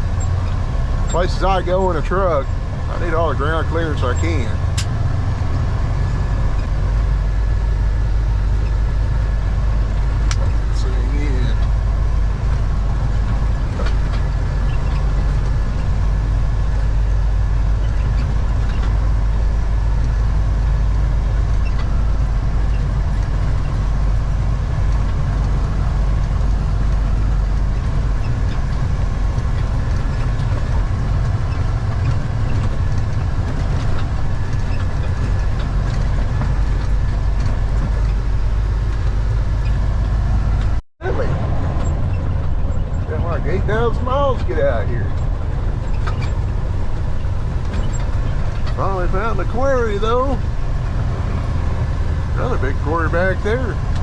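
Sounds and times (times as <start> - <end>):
truck diesel rumble: 0.0 - 54.0
faint rattles and clicks: 8.2 - 40.8, 41.7 - 54.0.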